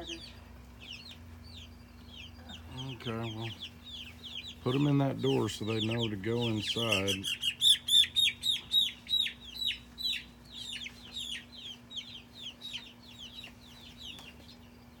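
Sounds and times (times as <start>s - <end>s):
young chickens peeping: 0.0s - 15.0s.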